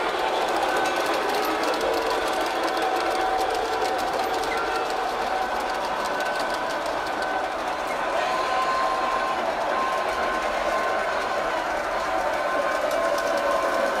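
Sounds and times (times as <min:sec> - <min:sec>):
wheels clicking on rails: 0:00.0 - 0:14.0
model train motor whir: 0:00.2 - 0:14.0.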